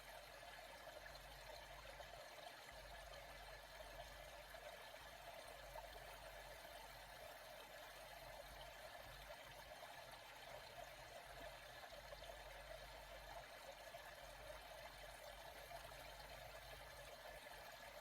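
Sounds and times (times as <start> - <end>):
faint flowing water: 0.0 - 18.0.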